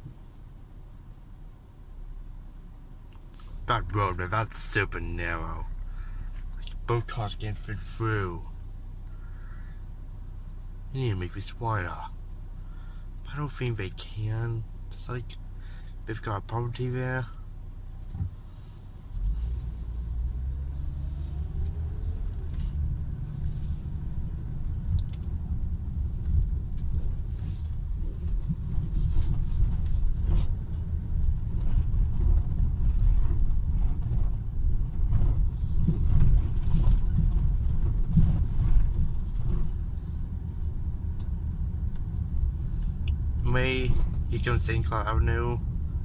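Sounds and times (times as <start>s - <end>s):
road and engine rumble in car cabin: 0.0s - 46.0s.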